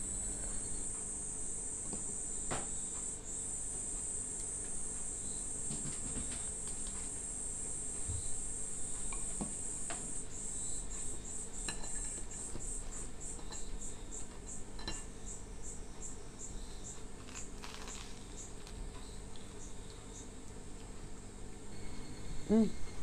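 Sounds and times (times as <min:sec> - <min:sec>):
cicadas buzzing: 0:00.0 - 0:20.3.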